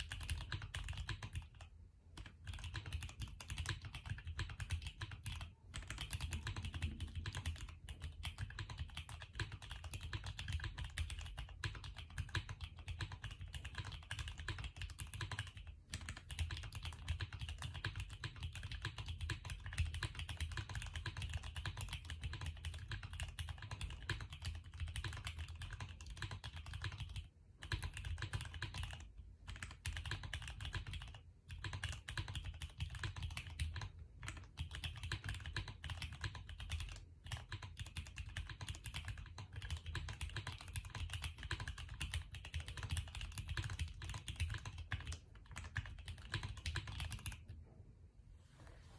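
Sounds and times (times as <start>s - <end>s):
fast mechanical keyboard typing: 0.0s - 47.5s.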